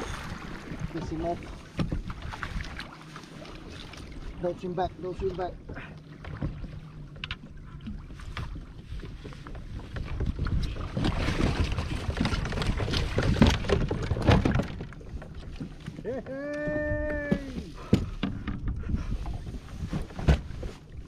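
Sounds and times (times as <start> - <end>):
knocks and rustling on boat: 0.0 - 21.0
water splashing against hull: 0.0 - 21.0.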